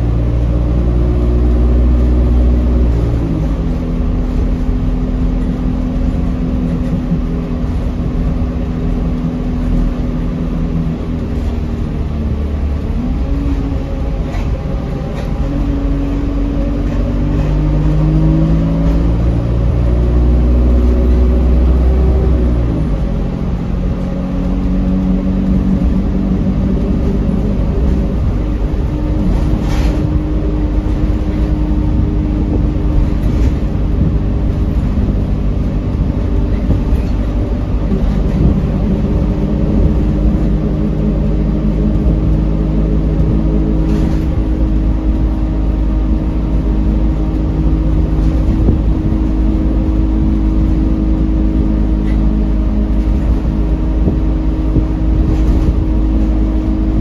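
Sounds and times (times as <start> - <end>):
bus engine pulling: 0.0 - 57.0
deep road rumble: 0.0 - 57.0.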